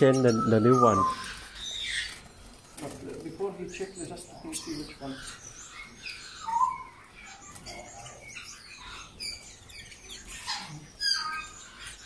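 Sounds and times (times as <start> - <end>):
canaries chirping: 0.0 - 12.0.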